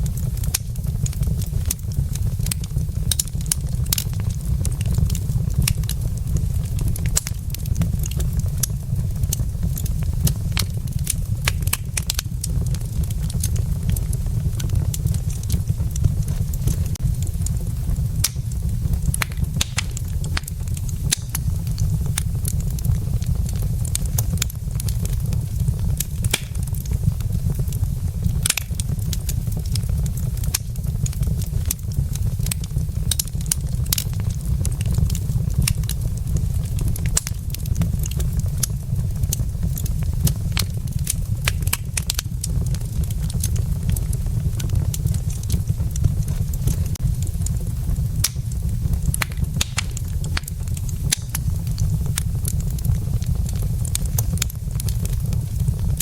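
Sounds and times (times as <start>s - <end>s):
burning logs crackling: 0.0s - 56.0s
low rumble: 0.0s - 56.0s.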